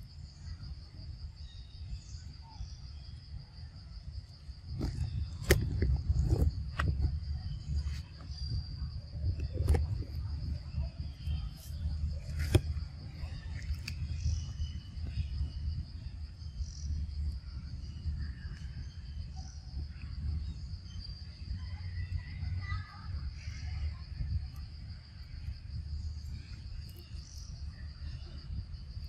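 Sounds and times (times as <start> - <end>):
high insect drone: 0.0 - 29.0
low rumble: 3.3 - 29.0.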